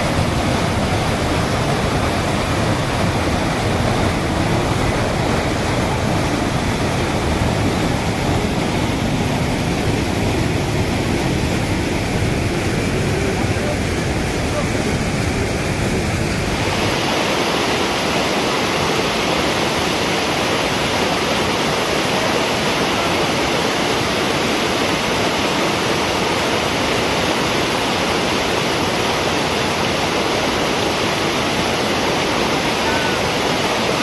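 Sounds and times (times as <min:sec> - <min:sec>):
waterfall rushing over rock: 0:00.0 - 0:34.0.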